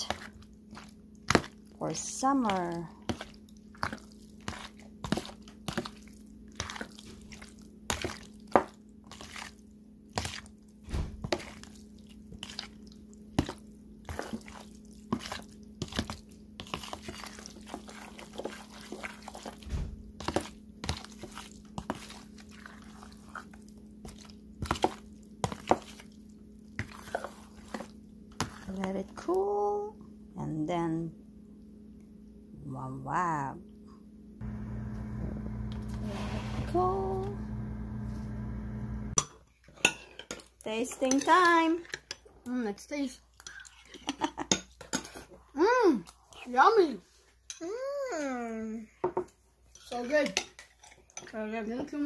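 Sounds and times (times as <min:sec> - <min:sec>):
wet squelches of stirring: 0:00.0 - 0:30.3, 0:34.4 - 0:47.6, 0:48.2 - 0:52.0.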